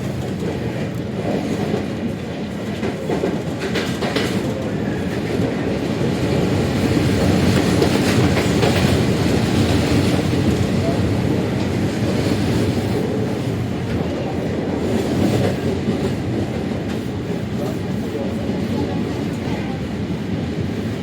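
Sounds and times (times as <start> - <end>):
wheels clattering on track: 0.0 - 17.8
train rumbling: 0.0 - 21.0.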